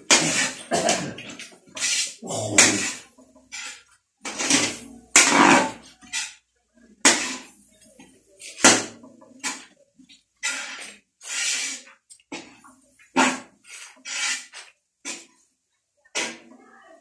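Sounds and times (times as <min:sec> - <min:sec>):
metal spatula scraping a wok: 0:00.0 - 0:15.4, 0:16.1 - 0:16.5.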